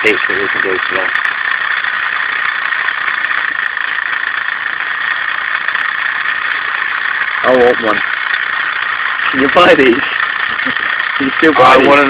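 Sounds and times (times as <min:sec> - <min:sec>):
model steam engine hissing: 0:00.0 - 0:12.0.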